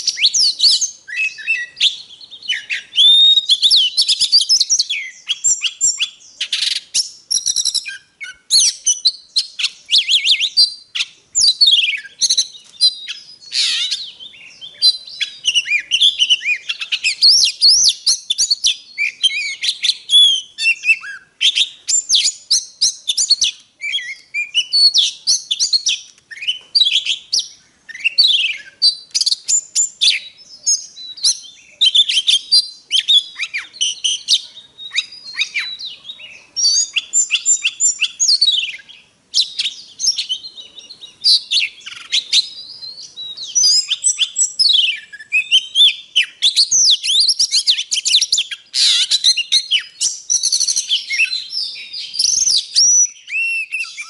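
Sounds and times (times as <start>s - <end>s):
bird singing varied whistles: 0.0s - 54.0s.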